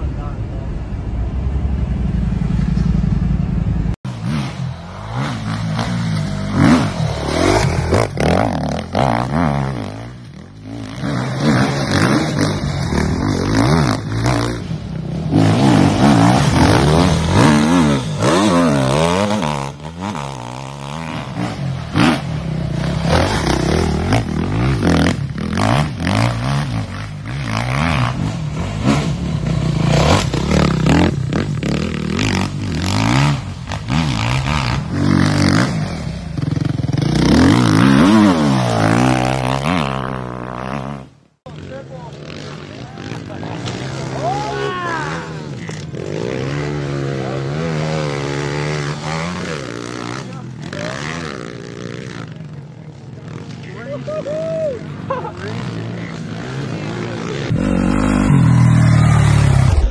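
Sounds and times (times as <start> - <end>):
road noise: 0.0 - 59.9
dirt bike engine revving: 2.4 - 59.9.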